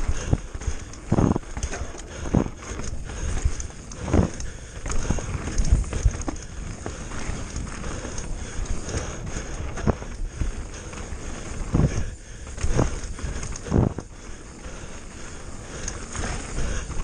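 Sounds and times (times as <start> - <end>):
bike rattling and knocking: 0.0 - 17.0
tyres crunching on loose gravel: 0.0 - 17.0.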